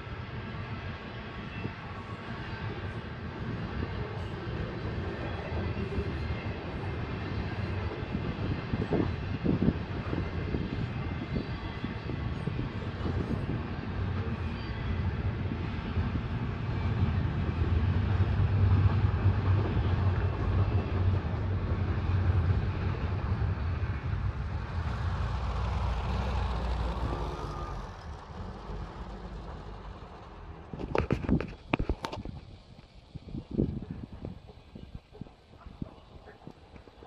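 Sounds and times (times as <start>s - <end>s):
freight train rumbling past: 0.0s - 31.8s.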